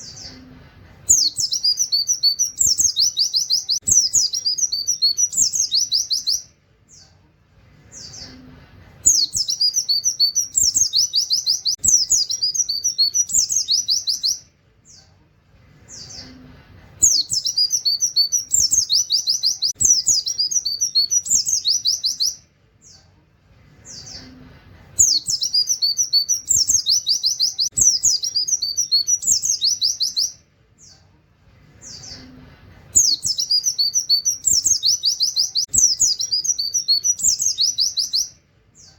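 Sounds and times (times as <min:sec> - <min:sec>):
bird singing trilled song: 0:00.0 - 0:00.5, 0:01.1 - 0:07.2, 0:07.9 - 0:15.2, 0:17.0 - 0:23.1, 0:25.0 - 0:31.1, 0:31.8 - 0:38.9.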